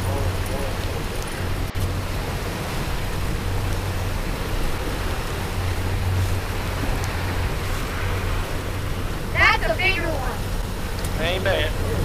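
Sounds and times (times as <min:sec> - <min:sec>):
outboard motor running: 0:00.0 - 0:12.0
water rushing from boat wake: 0:00.0 - 0:12.0.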